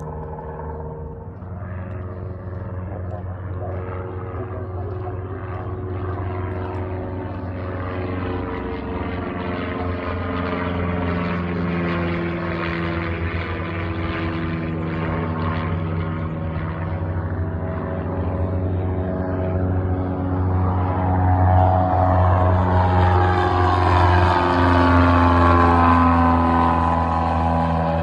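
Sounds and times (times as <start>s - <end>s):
light aircraft engine droning: 0.0s - 28.0s.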